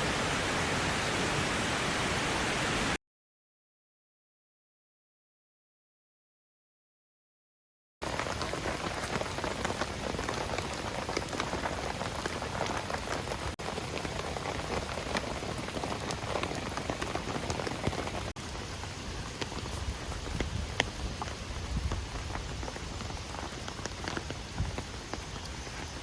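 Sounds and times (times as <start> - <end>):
heavy rain: 0.0 - 3.0, 8.0 - 26.0.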